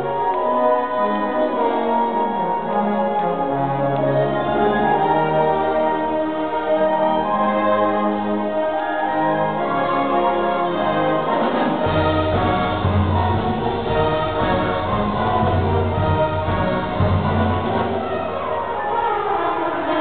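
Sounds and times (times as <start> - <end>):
orchestra playing held chords: 0.0 - 20.0.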